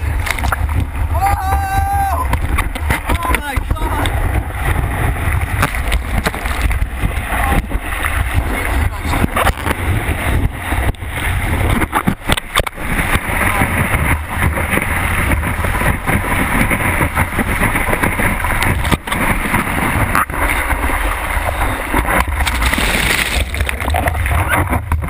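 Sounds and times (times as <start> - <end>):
churning surf: 0.0 - 25.0
wind noise: 0.0 - 25.0.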